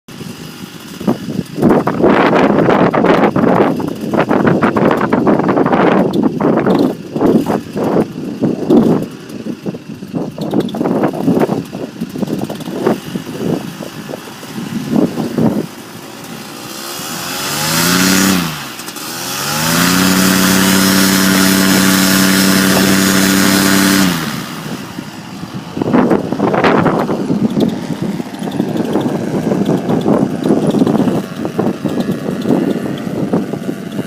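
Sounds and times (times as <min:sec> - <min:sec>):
gusty wind noise: 0:00.1 - 0:34.0
small engine revving: 0:00.1 - 0:34.0.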